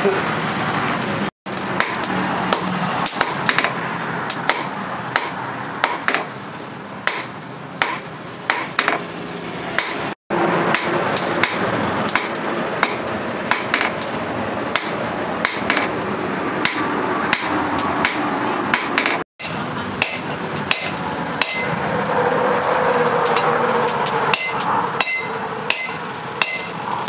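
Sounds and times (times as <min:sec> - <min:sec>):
hammer striking metal on anvil: 0:01.6 - 0:06.3, 0:07.0 - 0:09.0, 0:09.8 - 0:10.0, 0:10.7 - 0:15.9, 0:16.6 - 0:26.8.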